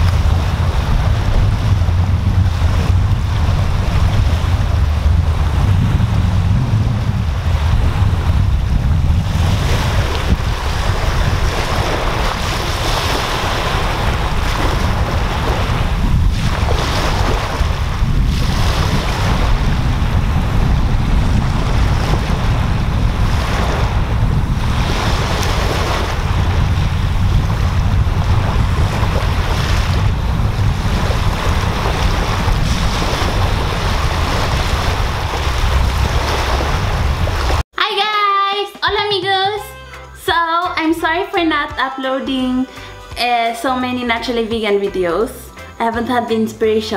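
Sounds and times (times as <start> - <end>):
wind rumble on microphone: 0.0 - 37.6
waves breaking on beach: 0.0 - 37.7.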